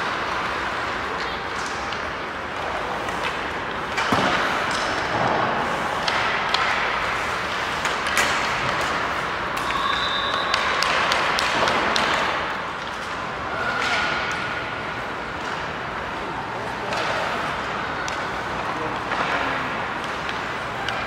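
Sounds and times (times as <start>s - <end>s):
pucks hitting boards: 0.0s - 21.0s
sticks striking pucks: 0.0s - 21.0s.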